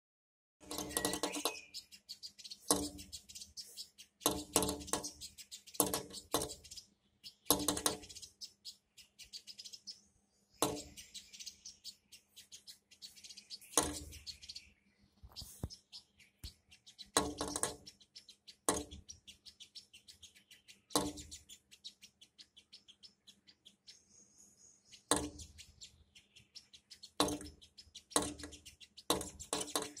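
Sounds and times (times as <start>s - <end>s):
beak tapping window glass: 0.6s - 9.7s, 10.6s - 14.6s, 15.4s - 23.9s, 24.9s - 30.0s
high bird chirps: 0.6s - 30.0s.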